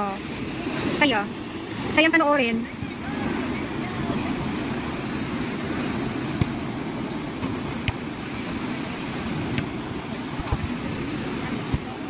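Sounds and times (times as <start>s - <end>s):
waves washing on sandy beach: 0.0s - 12.0s.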